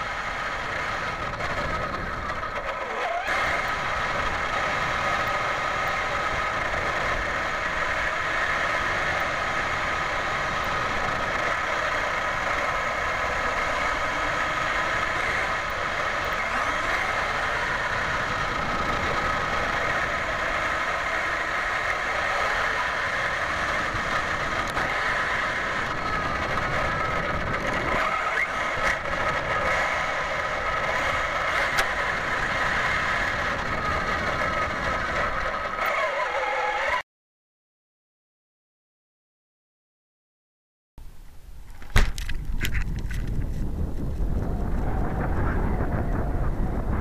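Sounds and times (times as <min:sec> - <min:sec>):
wind rushing on microphone: 0:00.0 - 0:35.9, 0:41.6 - 0:47.0.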